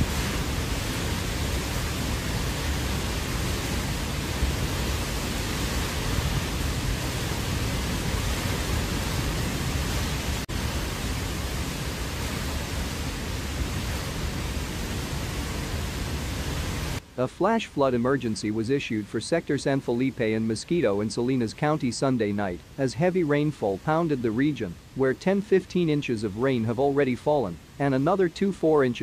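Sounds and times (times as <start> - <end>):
hurricane-force wind rushing: 0.0 - 25.2.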